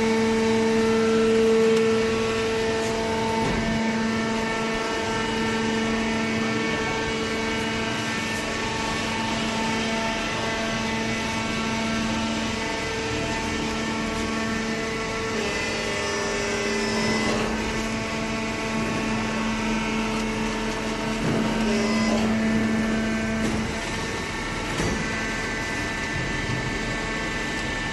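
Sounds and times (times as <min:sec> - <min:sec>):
hydraulic baler motor whine: 0:00.0 - 0:27.9.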